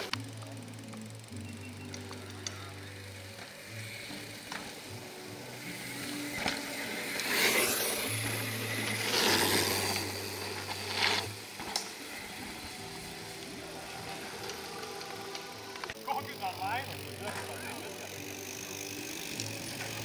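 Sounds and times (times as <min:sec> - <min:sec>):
bike tyres on dirt: 0:00.0 - 0:20.0
bikes clicking and rattling: 0:00.0 - 0:20.0.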